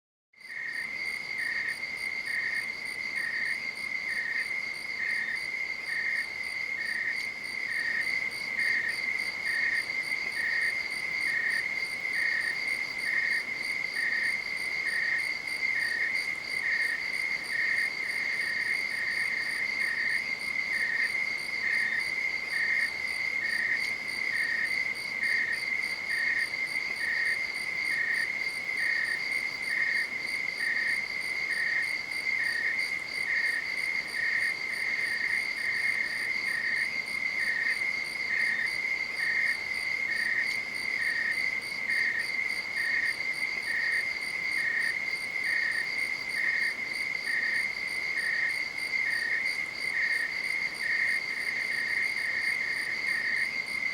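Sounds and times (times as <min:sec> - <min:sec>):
insect chirping: 0:00.4 - 0:53.9.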